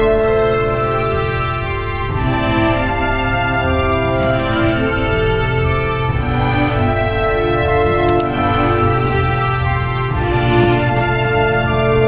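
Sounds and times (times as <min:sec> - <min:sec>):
music with sustained chords: 0:00.0 - 0:12.0.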